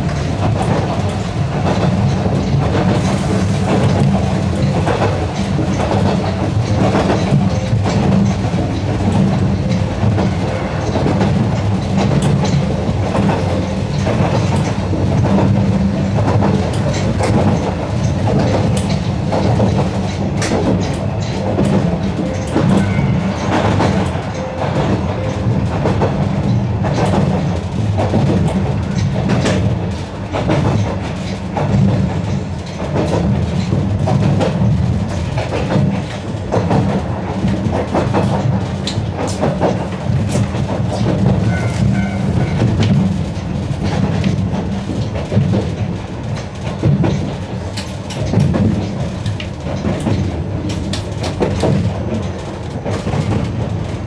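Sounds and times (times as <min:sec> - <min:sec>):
train rumble: 0:00.0 - 0:54.0
wheels clacking on track: 0:00.0 - 0:54.0.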